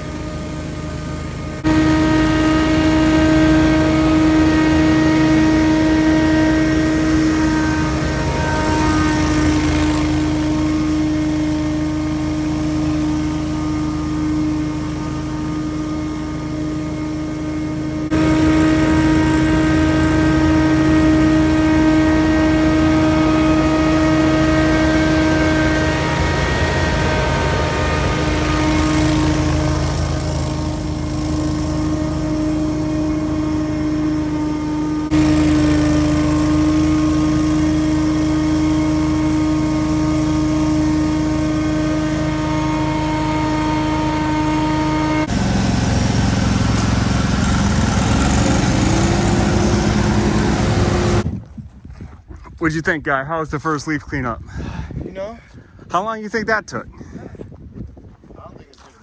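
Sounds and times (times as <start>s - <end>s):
leaf blower running: 0.0s - 51.2s.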